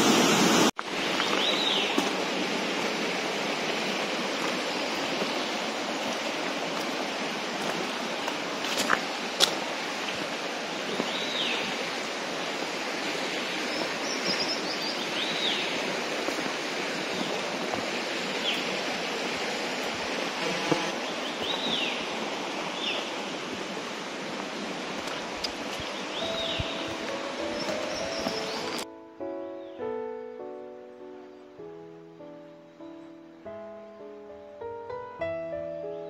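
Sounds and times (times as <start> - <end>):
mountain stream rushing: 0.0 - 28.9.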